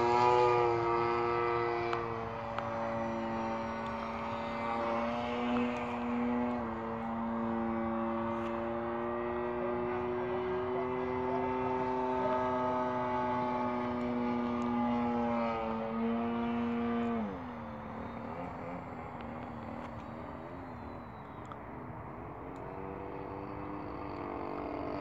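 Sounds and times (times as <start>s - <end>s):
model aeroplane motor buzzing: 0.0s - 25.0s.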